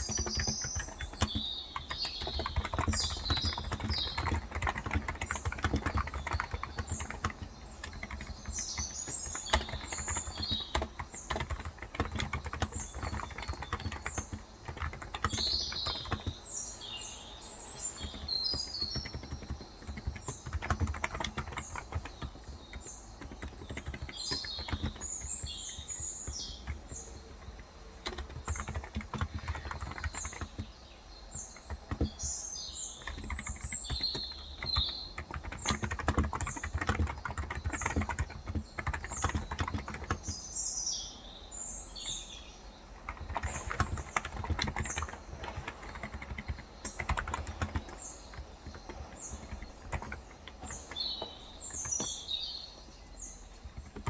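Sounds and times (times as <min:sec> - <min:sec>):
keyboard typing: 0:00.0 - 0:40.5, 0:43.0 - 0:54.0
small birds chirping: 0:00.0 - 0:54.0.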